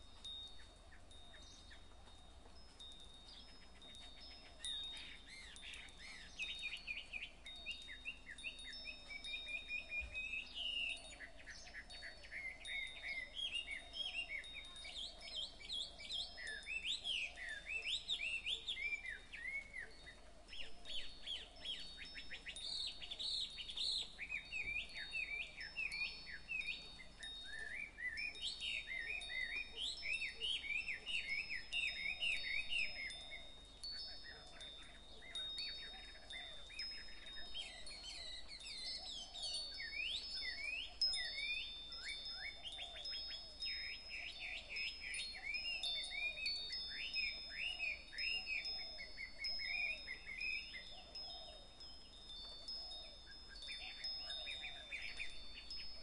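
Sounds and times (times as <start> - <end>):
birds chirping and warbling: 0.0 - 56.0
wind chimes ringing: 0.0 - 56.0.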